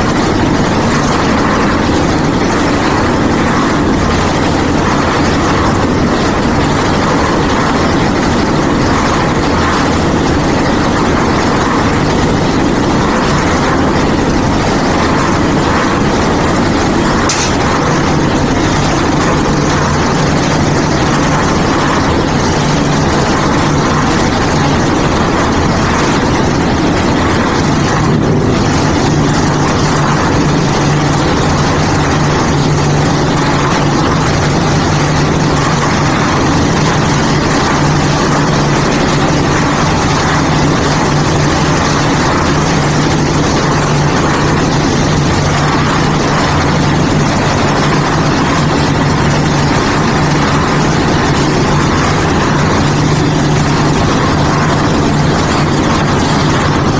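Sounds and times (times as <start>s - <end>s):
concrete mixer engine drone: 0.0s - 56.9s.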